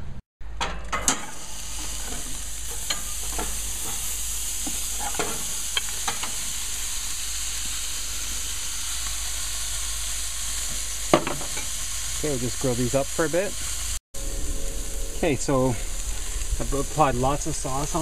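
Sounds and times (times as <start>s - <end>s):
meat sizzling on grill: 1.0s - 18.0s.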